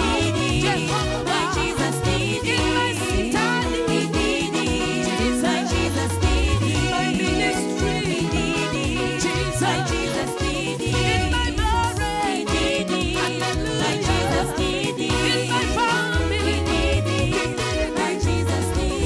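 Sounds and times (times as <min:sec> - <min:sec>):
bass line: 0:00.0 - 0:19.0
drums steady beat: 0:00.0 - 0:19.0
person singing: 0:00.0 - 0:19.0.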